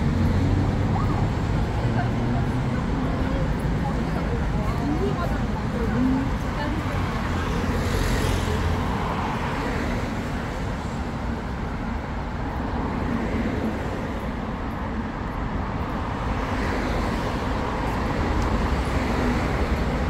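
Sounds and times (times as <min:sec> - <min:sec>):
city road traffic: 0:00.0 - 0:20.0.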